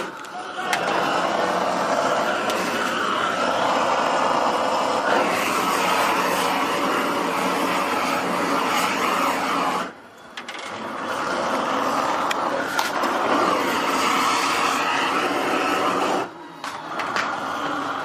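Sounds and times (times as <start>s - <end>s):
gas torch hissing: 0.0s - 10.1s, 10.7s - 18.0s.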